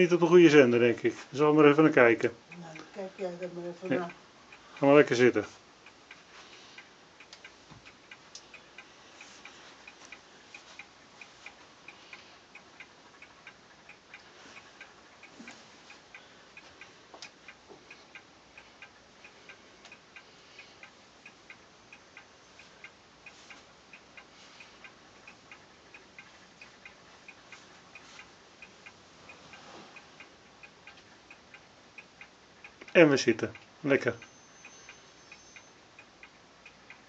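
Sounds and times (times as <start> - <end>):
wall clock ticking: 0.0 - 37.0.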